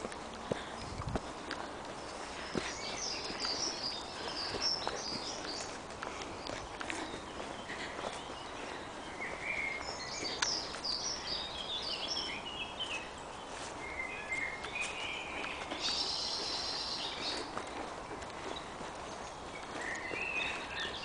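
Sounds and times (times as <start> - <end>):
footsteps on dirt path: 0.0 - 21.0
birds chirping and trilling: 0.4 - 21.0.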